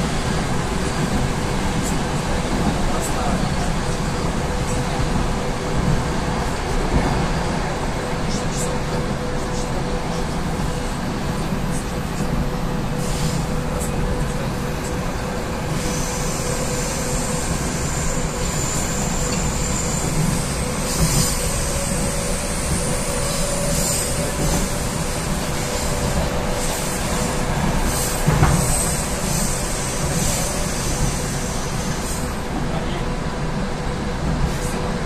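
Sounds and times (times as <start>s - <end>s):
rumble of wheels on rail: 0.0s - 35.0s.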